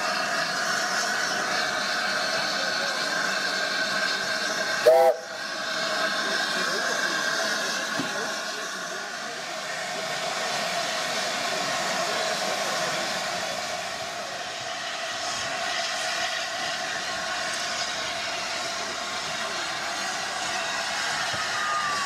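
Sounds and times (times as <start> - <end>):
steam locomotive hissing steam: 0.0 - 22.0.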